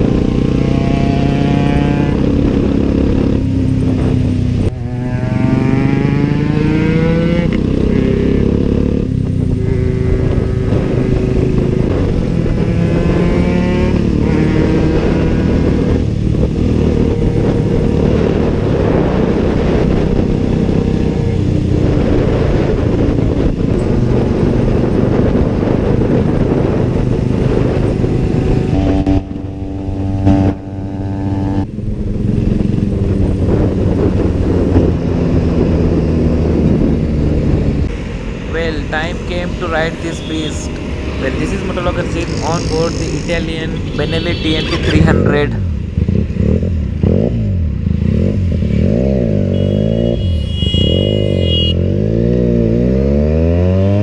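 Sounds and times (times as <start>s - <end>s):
motorcycle engine running: 0.0s - 52.4s.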